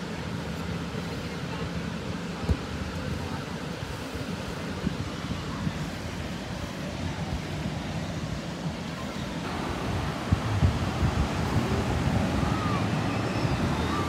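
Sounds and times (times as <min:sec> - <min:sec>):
ocean surf on sandy beach: 0:00.0 - 0:14.0
wind rumbling on microphone: 0:02.4 - 0:14.0.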